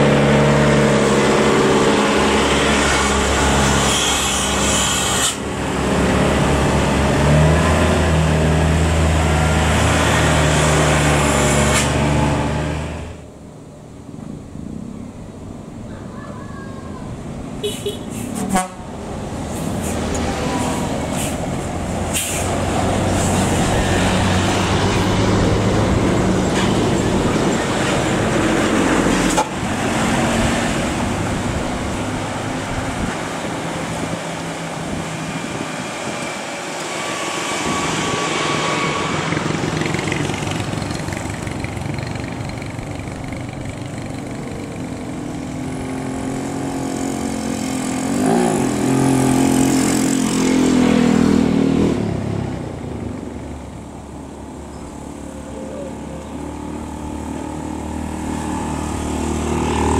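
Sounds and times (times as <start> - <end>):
bus diesel engine running: 0.0 - 48.1.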